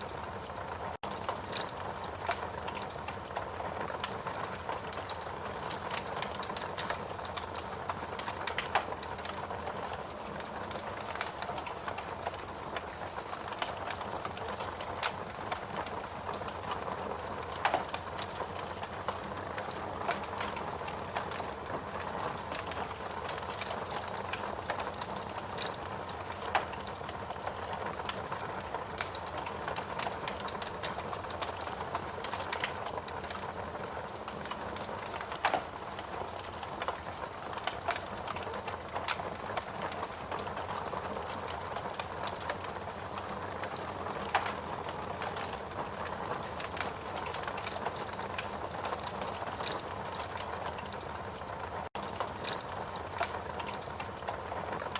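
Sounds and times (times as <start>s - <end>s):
log fire crackling and popping: 0.0s - 54.9s.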